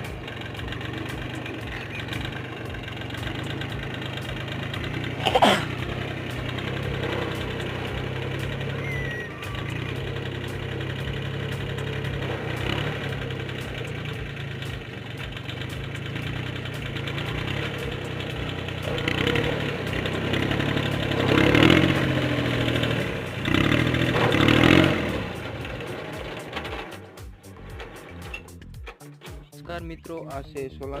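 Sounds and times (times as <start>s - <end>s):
tractor engine revving: 0.0s - 30.3s.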